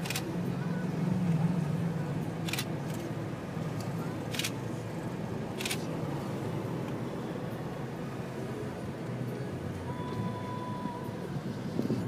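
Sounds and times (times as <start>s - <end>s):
vehicle hum from inside cabin: 0.0s - 12.0s.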